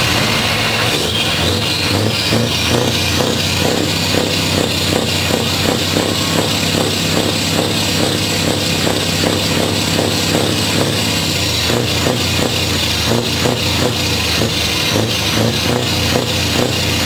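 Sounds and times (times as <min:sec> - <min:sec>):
truck engine idling: 0:00.0 - 0:17.0
electronic dance music: 0:01.1 - 0:17.0.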